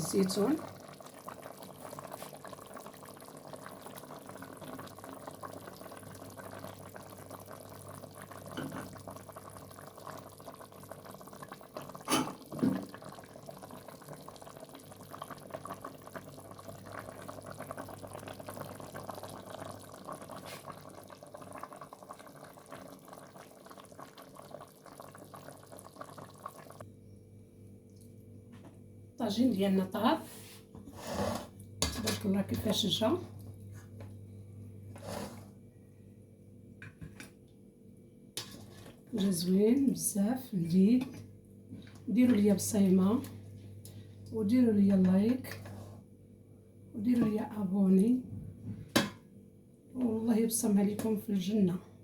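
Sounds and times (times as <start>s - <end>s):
stew simmering and bubbling: 0.0s - 26.9s, 30.7s - 37.6s, 38.3s - 49.3s.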